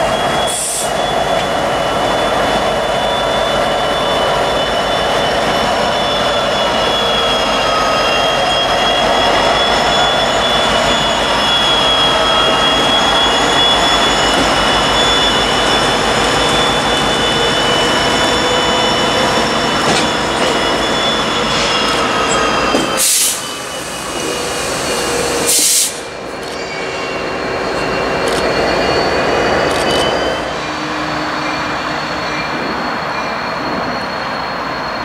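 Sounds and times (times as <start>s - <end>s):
diesel locomotives rolling past: 0.0s - 35.0s
high-pitched whine: 0.0s - 35.0s.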